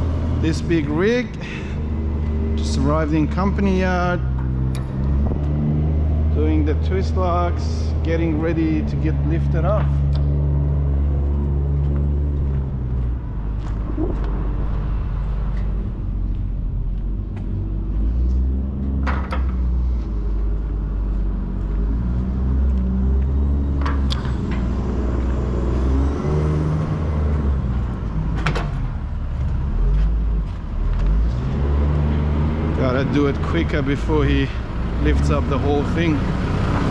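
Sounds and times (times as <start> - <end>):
diesel engine revving: 0.0 - 36.9.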